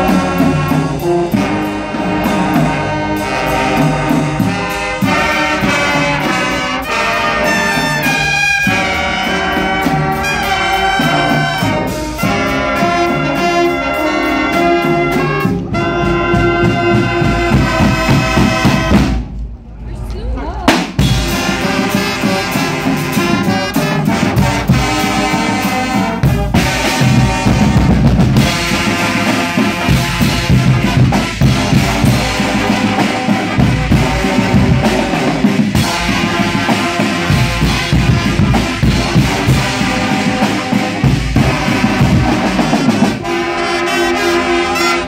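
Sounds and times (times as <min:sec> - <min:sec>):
trumpets and trombones: 0:00.0 - 0:19.4, 0:20.7 - 0:45.0
snare drums: 0:00.0 - 0:19.6, 0:20.6 - 0:45.0
bass drums: 0:00.0 - 0:43.3
cymbals: 0:00.0 - 0:45.0.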